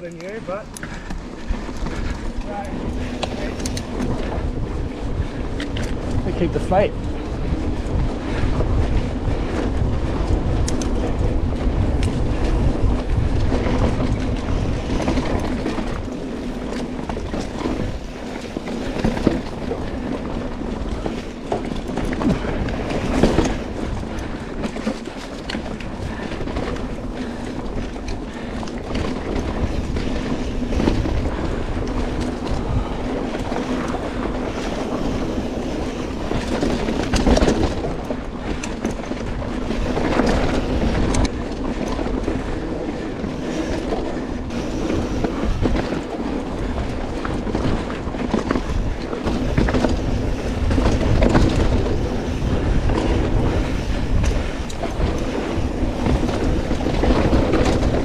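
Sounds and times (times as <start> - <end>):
bike clattering over bumps: 0.0 - 58.0
bike tyre noise on dirt: 0.0 - 58.0.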